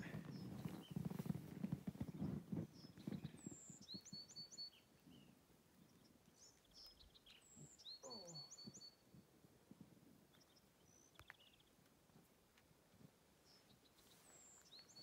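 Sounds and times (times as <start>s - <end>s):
faint songbird singing: 0.0s - 9.3s, 10.2s - 11.8s, 13.4s - 15.0s.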